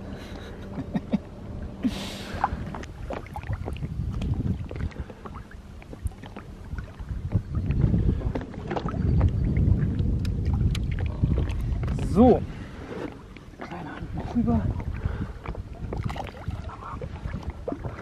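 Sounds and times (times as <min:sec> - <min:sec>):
water splashing against hull: 0:00.0 - 0:18.0
wind rumble on microphone: 0:00.0 - 0:18.0
knocks and clatter in boat: 0:02.7 - 0:12.4, 0:13.0 - 0:18.0.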